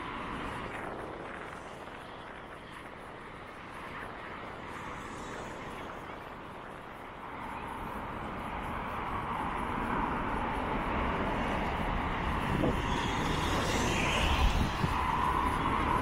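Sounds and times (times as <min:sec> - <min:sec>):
engine noise: 0:00.0 - 0:16.0
motor traffic hum: 0:00.0 - 0:16.0.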